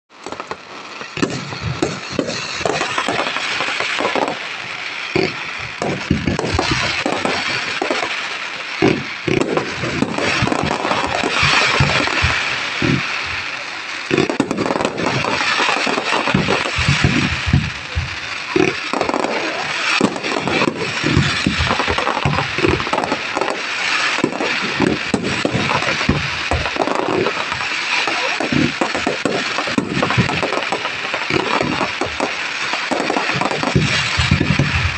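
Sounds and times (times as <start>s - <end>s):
fireworks bangs and booms: 0.1s - 34.9s
fireworks crackling: 0.1s - 34.9s.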